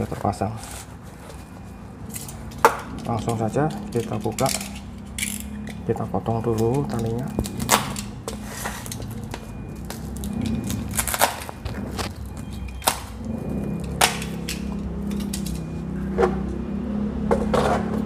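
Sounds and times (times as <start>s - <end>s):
handling noise: 0.0s - 16.6s.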